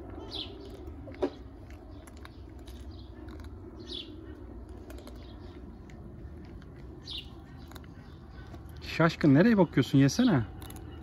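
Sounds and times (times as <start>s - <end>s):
cats crunching dry kibble: 0.0s - 11.0s.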